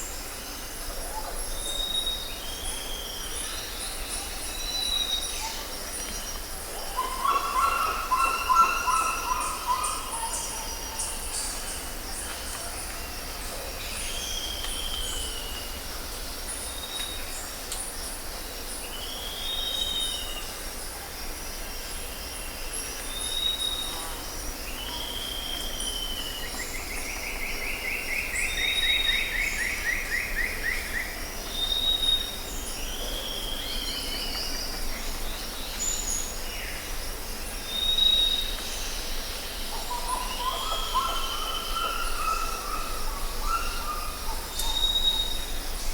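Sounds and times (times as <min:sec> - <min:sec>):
insect chorus chirring: 0:00.1 - 0:45.9.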